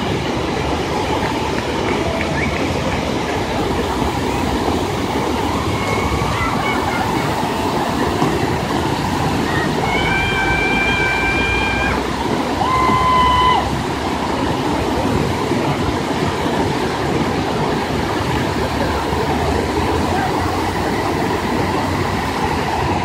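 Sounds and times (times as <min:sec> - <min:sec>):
river rapids roaring: 0:00.0 - 0:23.0.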